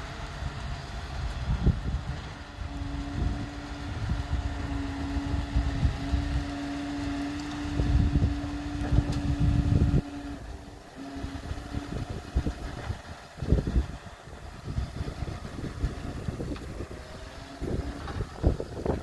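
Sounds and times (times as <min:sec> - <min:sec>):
steady hum: 0:00.0 - 0:19.0
vehicle engine rumbling: 0:00.0 - 0:19.0.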